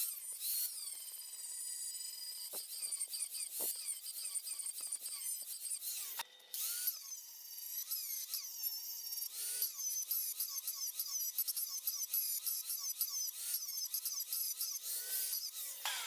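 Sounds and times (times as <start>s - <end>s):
power tool whine on steel: 0.0s - 16.0s.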